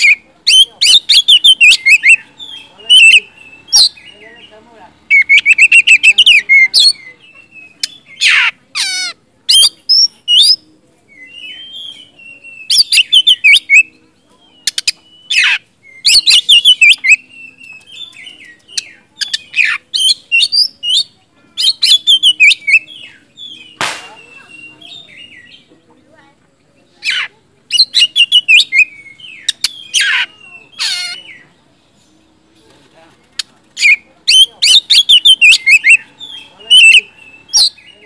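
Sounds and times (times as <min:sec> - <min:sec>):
bird singing whistled phrases: 0:00.0 - 0:04.2, 0:05.1 - 0:08.4, 0:09.5 - 0:25.7, 0:27.0 - 0:31.5, 0:33.8 - 0:38.0.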